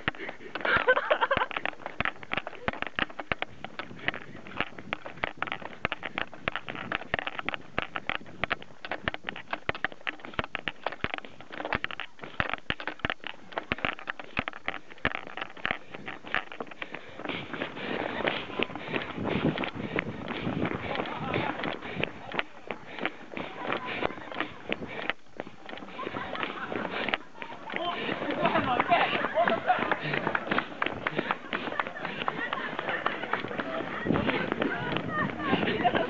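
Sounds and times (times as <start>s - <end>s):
shoes slapping on pavement: 0.0s - 36.0s.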